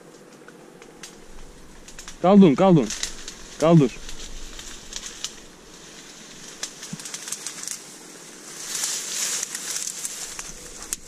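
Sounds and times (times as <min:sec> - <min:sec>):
dry reeds rustling and snapping: 0:00.0 - 0:11.0.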